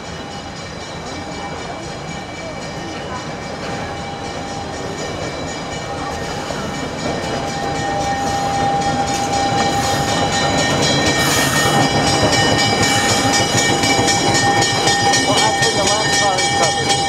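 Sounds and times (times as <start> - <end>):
steady high-pitched tones: 0.0 - 17.0
train rumbling on rails: 0.0 - 17.0
diesel locomotive engine running: 1.2 - 17.0.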